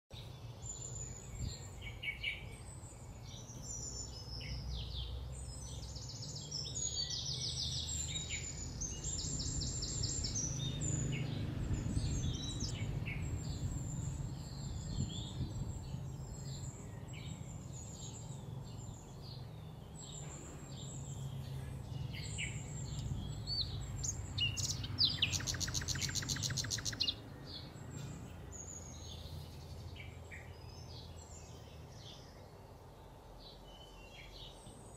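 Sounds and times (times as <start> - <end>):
low outdoor rumble: 0.2 - 33.6
birds chirping and calling: 0.2 - 34.9.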